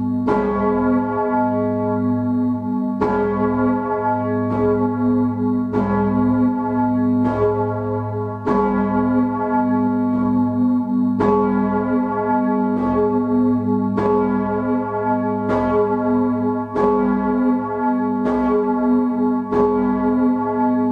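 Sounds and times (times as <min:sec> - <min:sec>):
large church bell ringing: 0:00.0 - 0:20.9.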